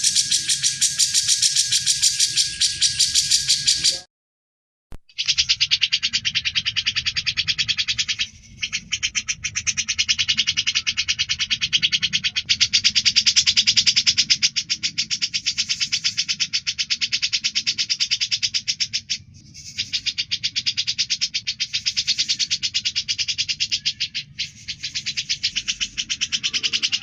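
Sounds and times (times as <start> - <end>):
bulbul chattering call: 0.0 - 4.1, 5.0 - 27.0.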